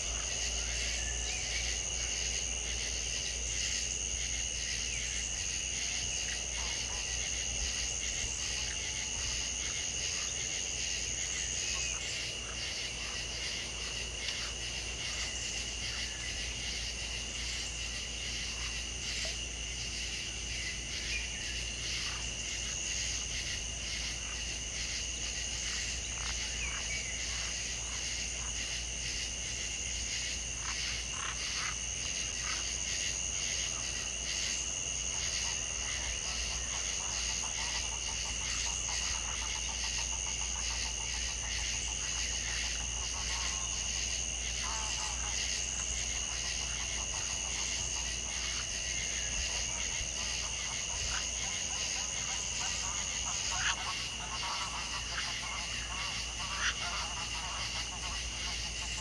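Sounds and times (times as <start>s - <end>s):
insects trilling: 0.0s - 59.0s
frogs clicking calls: 4.6s - 59.0s.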